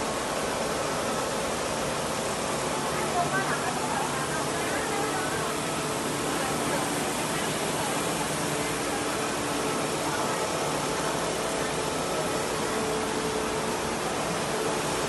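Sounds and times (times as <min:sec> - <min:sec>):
quilting machines humming: 0:00.0 - 0:15.0.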